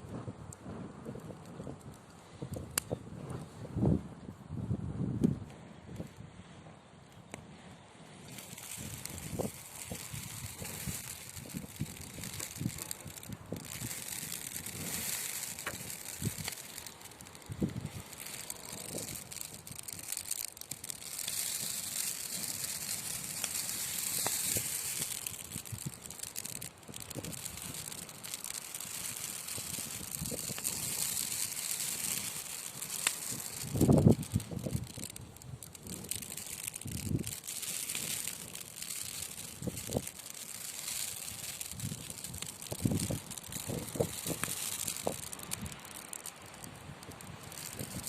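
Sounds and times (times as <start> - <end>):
logs burning in a fireplace: 0.0 - 48.0.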